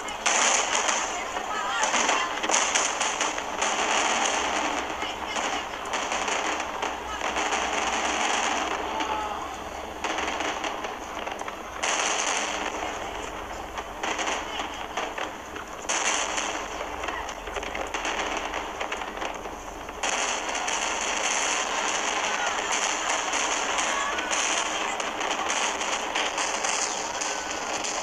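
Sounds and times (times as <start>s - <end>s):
fireworks crackling: 0.0s - 28.0s.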